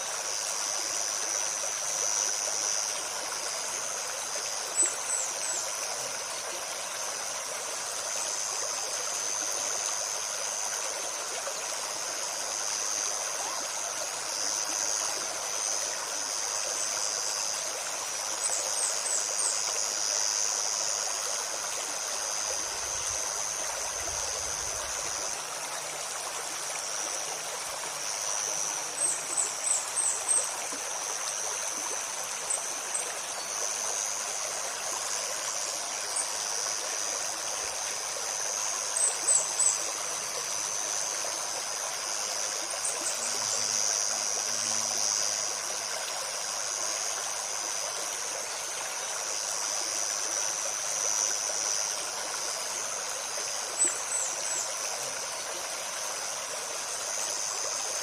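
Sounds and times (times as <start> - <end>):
high-pitched insect drone: 0.0 - 58.0
stream running over stones: 0.0 - 58.0.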